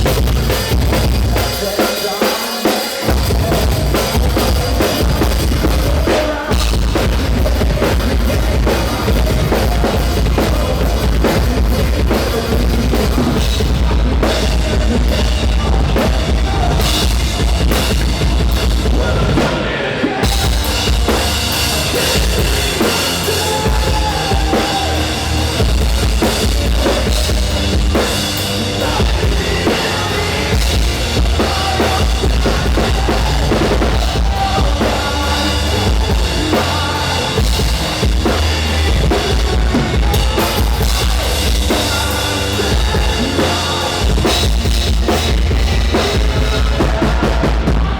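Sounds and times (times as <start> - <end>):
band playing loud music: 0.0 - 47.9
drum kit: 0.0 - 47.9.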